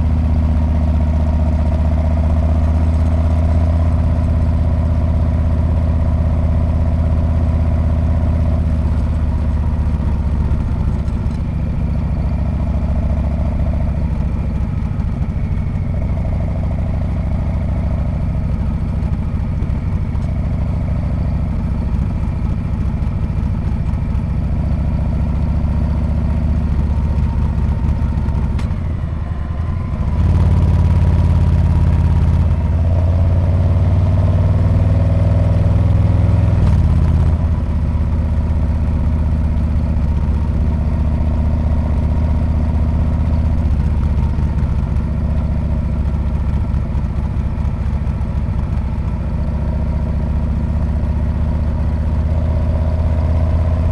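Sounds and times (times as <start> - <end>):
motorcycle engine exhaust: 0.0 - 53.9.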